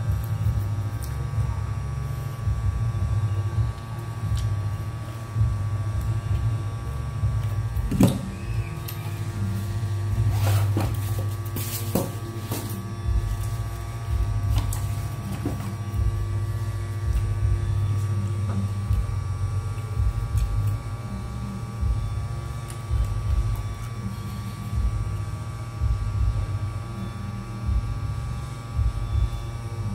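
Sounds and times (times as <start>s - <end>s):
electrical hum: 0.0s - 29.9s.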